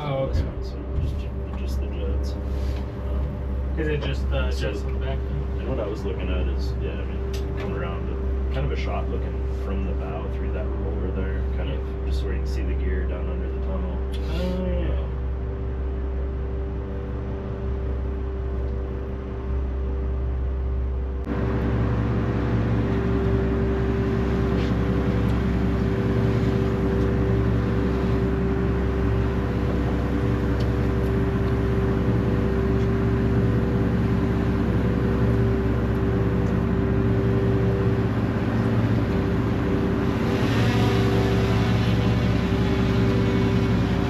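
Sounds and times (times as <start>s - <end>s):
boat engine drone: 0.0s - 44.0s
water and hull hum: 0.0s - 44.0s.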